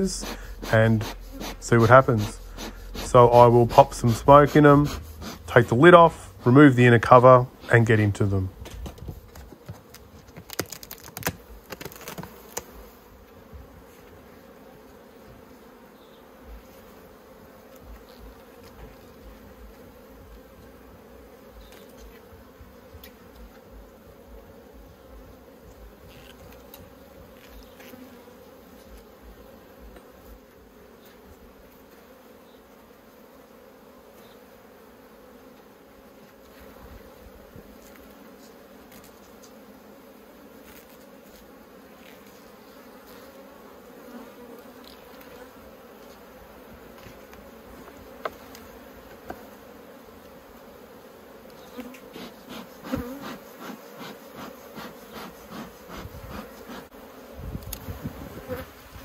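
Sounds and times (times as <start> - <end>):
honeybees buzzing: 0.0 - 59.0
knocks and scrapes on hive: 0.0 - 59.0.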